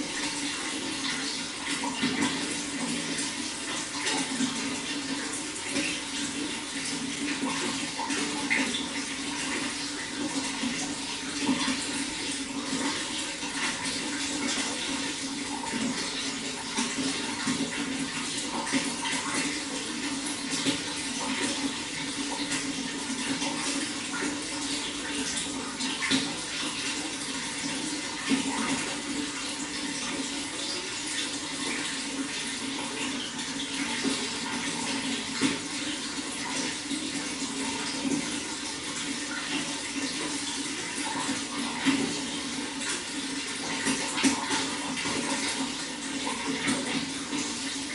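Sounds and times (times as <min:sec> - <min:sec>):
running water splashing: 0:00.0 - 0:47.9.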